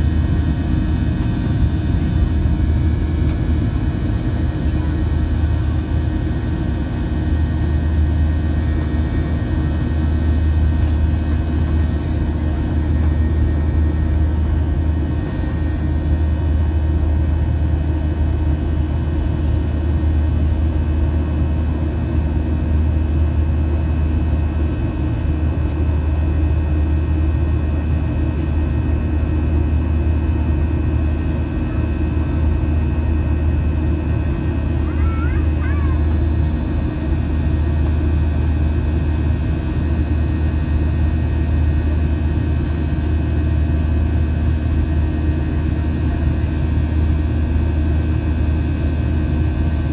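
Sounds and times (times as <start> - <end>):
airplane cabin rumble: 0.0 - 49.9.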